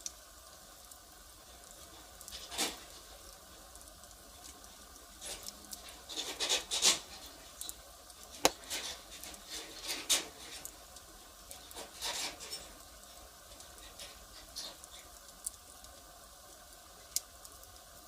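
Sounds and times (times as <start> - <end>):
firewood crackling and popping: 0.0 - 18.0
hissing fire flares: 0.0 - 18.0.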